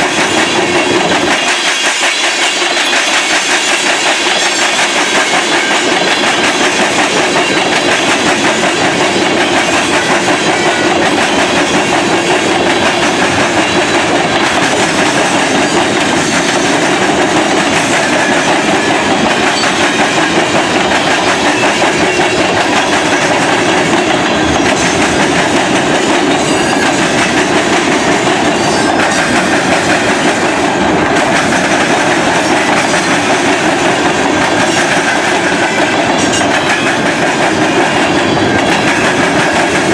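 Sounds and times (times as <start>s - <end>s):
train wheels clacking on rails: 0.0s - 39.9s.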